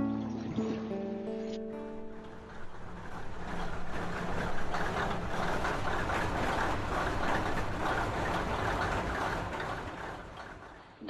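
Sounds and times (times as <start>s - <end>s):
train wagons on rails: 0.0s - 11.0s.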